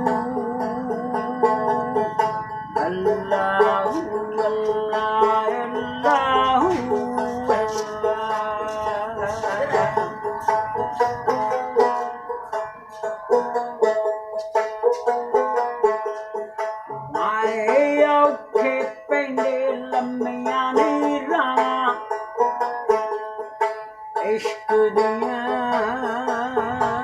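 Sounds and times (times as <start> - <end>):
plucked string instrument melody: 0.0 - 27.0.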